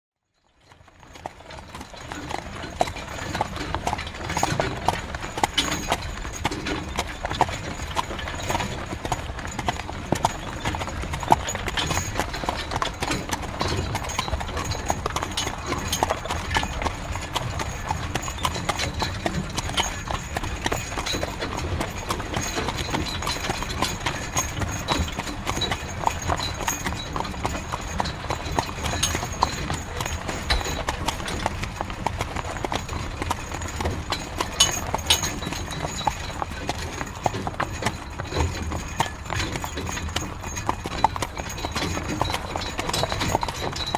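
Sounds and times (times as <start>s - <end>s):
horse hooves clip-clopping: 0.4s - 43.9s
wooden carriage wheels rumbling: 0.5s - 43.9s.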